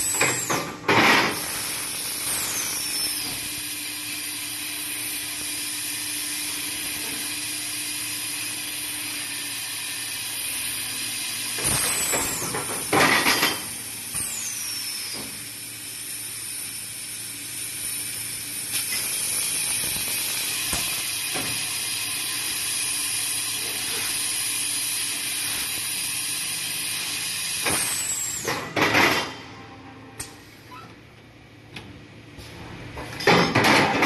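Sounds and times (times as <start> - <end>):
laser cutting machine hissing: 1.2 - 28.7.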